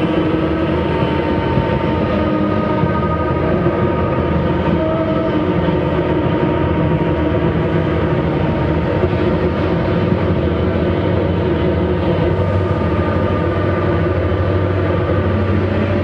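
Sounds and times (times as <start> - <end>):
experimental band playing drone: 0.0 - 16.0.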